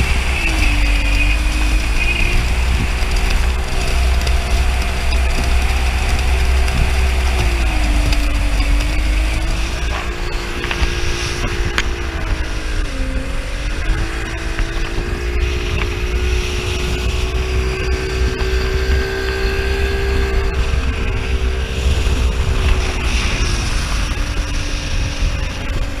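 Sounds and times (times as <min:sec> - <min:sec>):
speedboat engine running: 0:00.0 - 0:26.0
water and wind rumble: 0:00.0 - 0:26.0.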